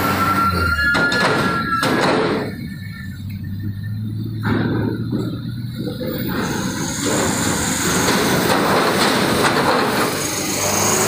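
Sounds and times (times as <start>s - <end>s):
trucks rumbling on metal ramp: 0.0s - 11.0s
wheels clanking on steel plates: 0.0s - 11.0s.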